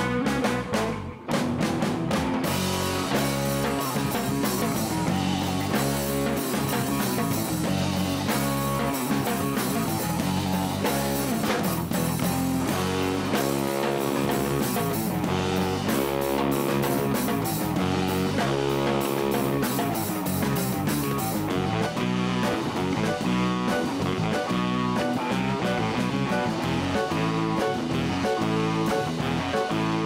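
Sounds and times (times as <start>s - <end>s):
bass guitar: 0.0s - 30.0s
drum kit: 0.0s - 30.0s
electric guitar: 0.0s - 30.0s.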